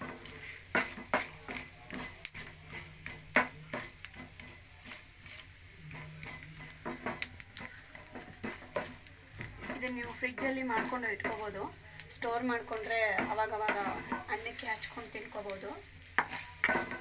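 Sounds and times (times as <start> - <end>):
oil sizzling: 0.0 - 17.0
spatula scraping frying pan: 0.0 - 17.0.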